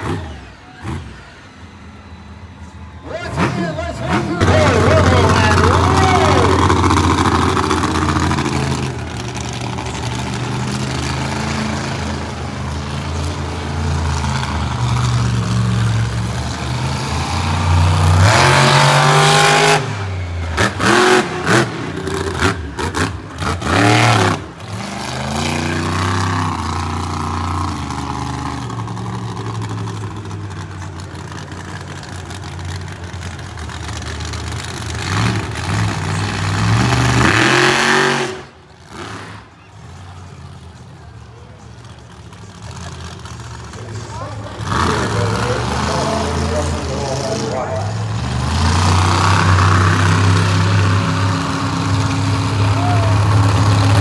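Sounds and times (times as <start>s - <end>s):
monster truck engine revving: 0.0s - 54.0s.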